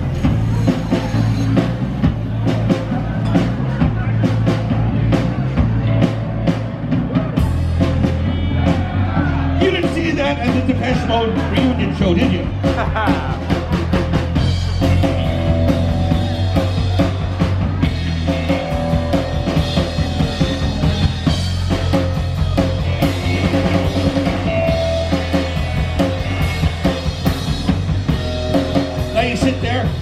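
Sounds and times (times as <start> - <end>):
drum kit beat: 0.0 - 30.0
live rock band playing: 0.0 - 30.0.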